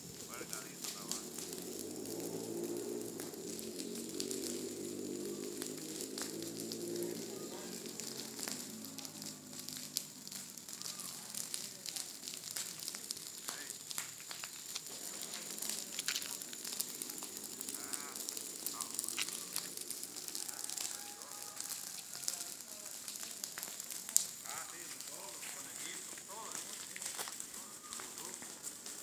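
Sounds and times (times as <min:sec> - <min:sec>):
faint outdoor background sound: 0:00.0 - 0:29.0.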